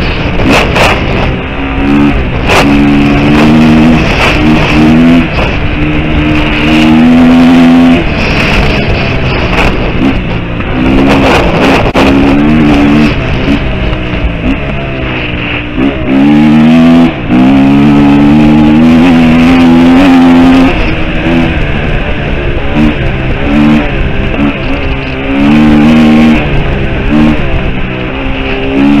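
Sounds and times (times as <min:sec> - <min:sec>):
motorcycle engine under throttle: 0:00.0 - 0:29.0.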